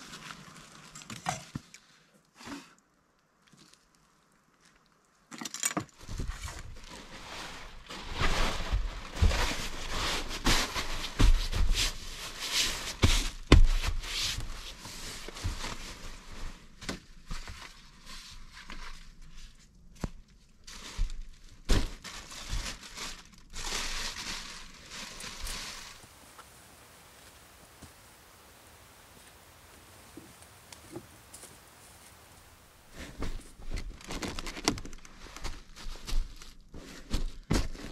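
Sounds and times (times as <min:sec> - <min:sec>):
crinkling and rustling: 0:00.0 - 0:01.8, 0:03.4 - 0:37.9.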